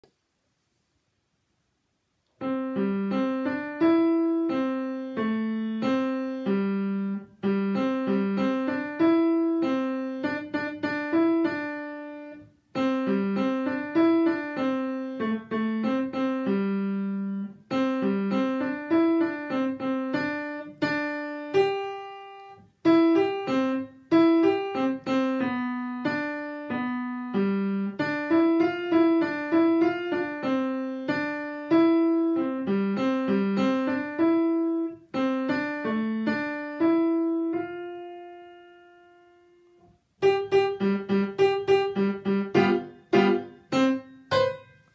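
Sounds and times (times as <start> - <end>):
grand piano tune: 2.4 - 44.9.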